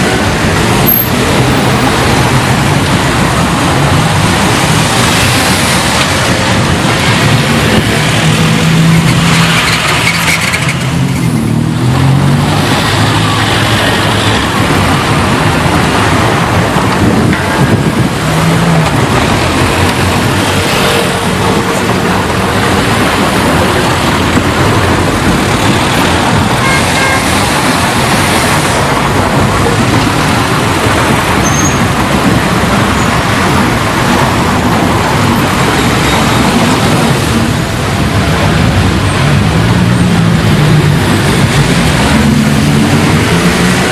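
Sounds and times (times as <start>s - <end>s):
car engines and tyre noise: 0.0s - 43.9s.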